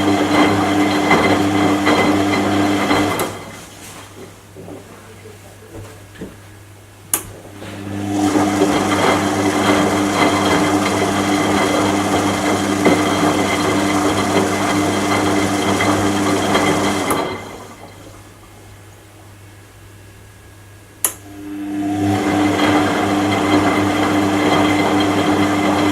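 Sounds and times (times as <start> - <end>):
washing machine motor humming: 0.0 - 25.9.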